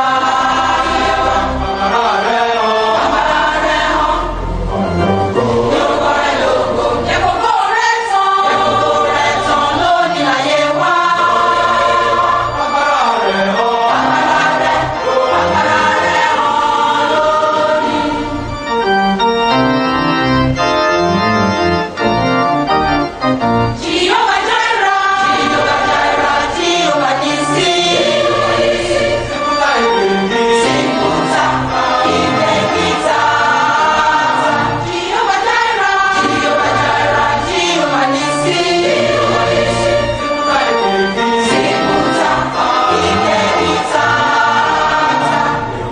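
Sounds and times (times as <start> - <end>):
gospel choir singing: 0.0 - 45.9
organ accompaniment: 0.0 - 45.9.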